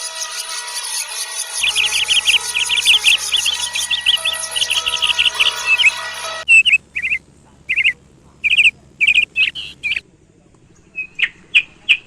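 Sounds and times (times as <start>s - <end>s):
steady tone: 0.0s - 10.2s.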